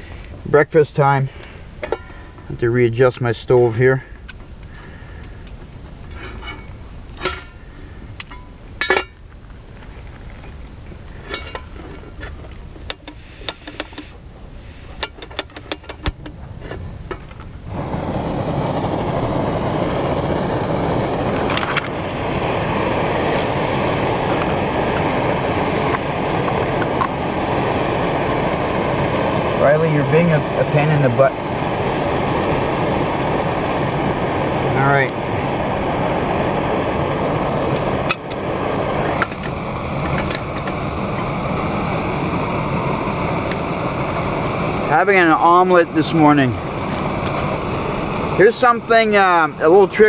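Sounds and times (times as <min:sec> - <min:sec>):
stove burner hissing: 0:00.0 - 0:50.0.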